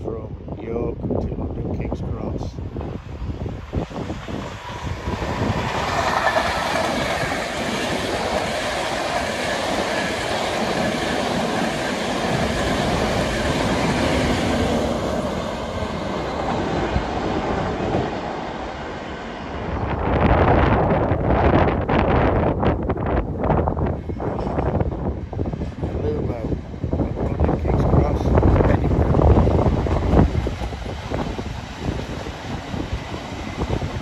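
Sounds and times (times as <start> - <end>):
train passing at speed: 2.2 - 34.0.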